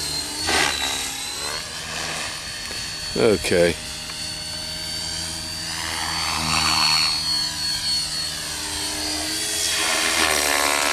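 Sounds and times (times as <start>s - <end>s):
model helicopter high-pitched whine: 0.0s - 10.9s.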